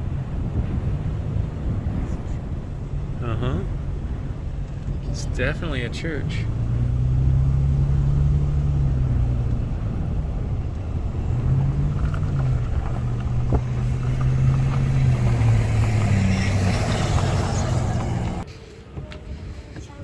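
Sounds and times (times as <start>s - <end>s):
car engine hum: 0.0s - 18.5s
road noise: 0.0s - 20.0s.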